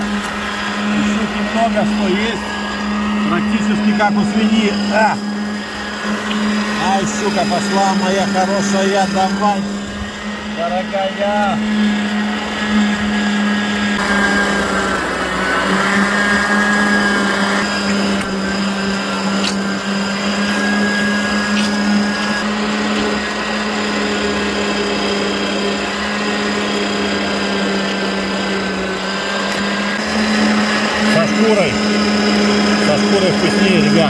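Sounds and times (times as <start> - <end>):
electric meat grinder humming: 0.0 - 34.0.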